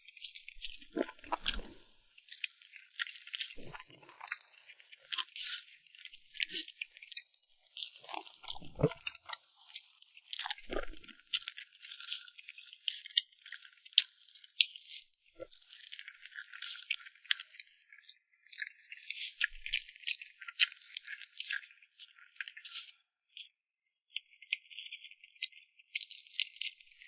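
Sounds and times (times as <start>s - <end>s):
chewing and crunching cake: 0.1s - 27.0s.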